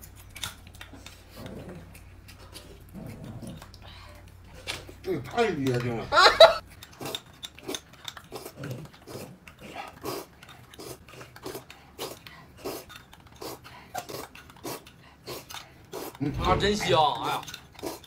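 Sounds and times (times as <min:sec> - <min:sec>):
chewing and lip-smacking: 0:00.0 - 0:05.0, 0:06.6 - 0:16.2, 0:17.4 - 0:18.0.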